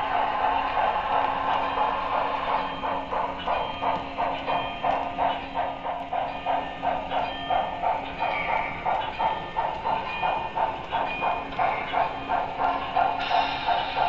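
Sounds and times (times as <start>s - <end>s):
model steam locomotive chuffs: 0.0s - 14.0s.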